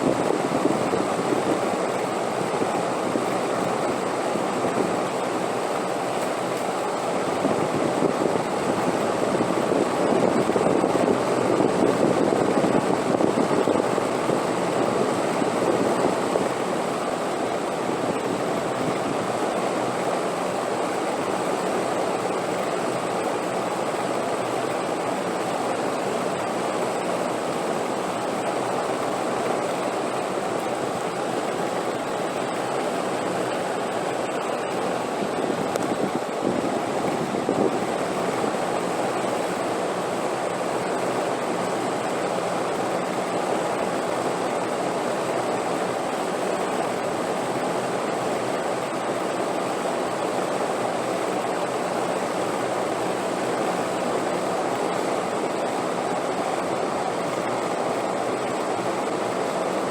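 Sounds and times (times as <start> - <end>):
rushing wind: 0.0 - 59.9.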